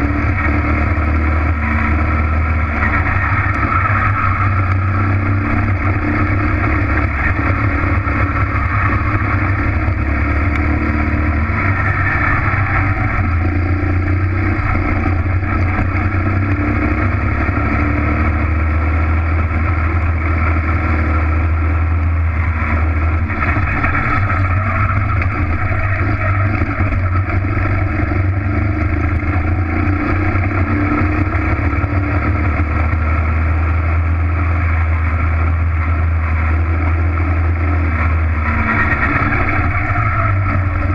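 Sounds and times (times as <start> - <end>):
kart engine running hard: 0.0 - 40.9.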